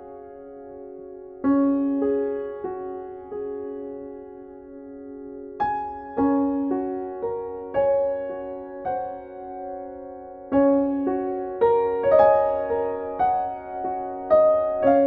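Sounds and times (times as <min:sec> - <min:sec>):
slow gentle solo piano: 0:00.0 - 0:15.0.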